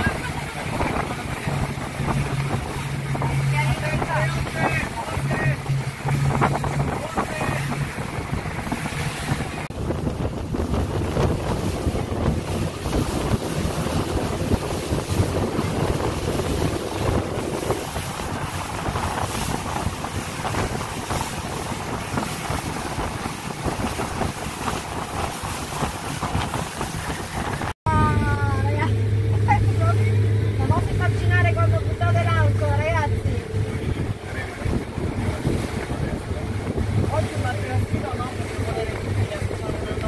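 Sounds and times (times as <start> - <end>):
sea splashing against boat hull: 0.0 - 40.0
wind buffeting microphone: 0.0 - 40.0.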